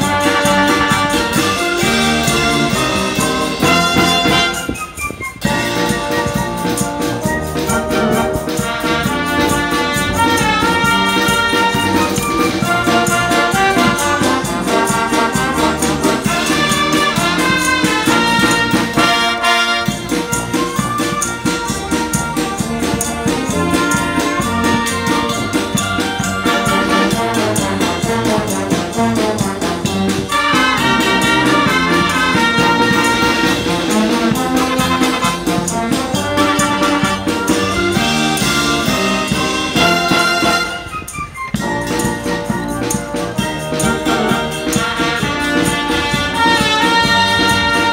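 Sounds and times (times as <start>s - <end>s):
bass drum and cymbals: 0.0s - 47.9s
wind band playing: 0.0s - 47.9s.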